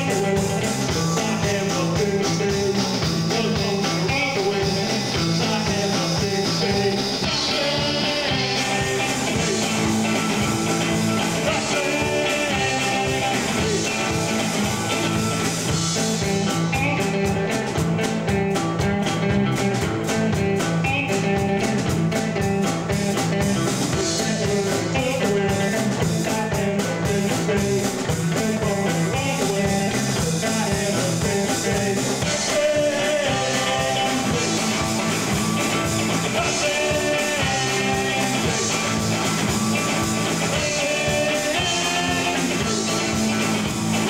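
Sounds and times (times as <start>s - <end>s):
bass guitar: 0.0s - 44.0s
drums: 0.0s - 44.0s
electric guitar: 0.0s - 44.0s
person singing: 0.0s - 44.0s.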